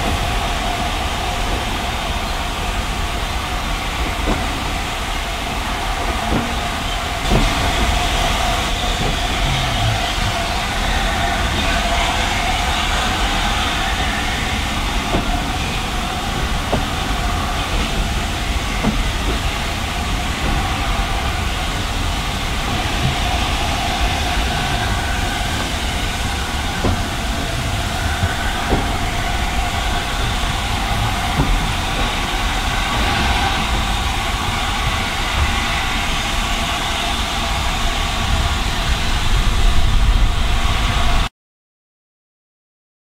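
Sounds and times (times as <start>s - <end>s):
wheels clicking over rail joints: 0.0s - 36.8s
train coaches rumbling: 0.0s - 41.3s.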